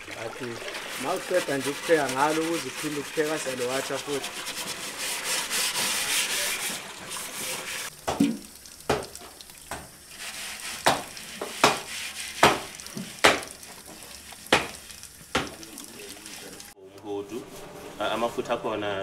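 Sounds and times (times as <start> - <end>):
scouring pad scrubbing metal pot: 0.0 - 16.8.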